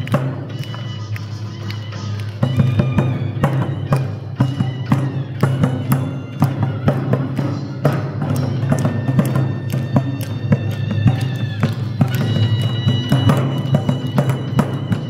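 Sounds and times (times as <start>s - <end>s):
traditional music: 0.0s - 15.0s.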